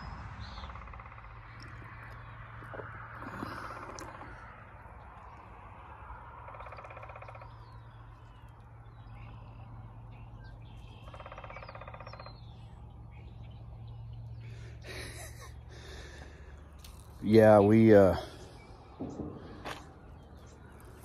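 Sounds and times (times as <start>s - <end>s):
faint birdsong: 0.0s - 21.0s
woodpecker drumming on hollow wood: 0.4s - 14.8s, 15.6s - 21.0s.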